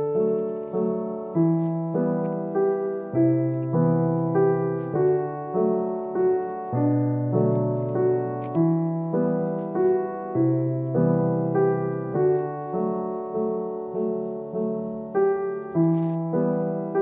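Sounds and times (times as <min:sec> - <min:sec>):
gentle solo piano music: 0:00.0 - 0:17.0.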